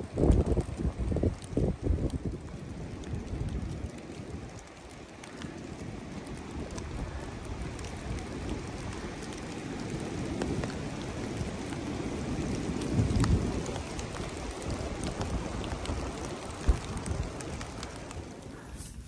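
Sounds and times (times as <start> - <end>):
water dripping from branches: 0.0 - 18.8
wind gusting in bare trees: 0.0 - 19.0
wind rumble on microphone: 0.0 - 19.0.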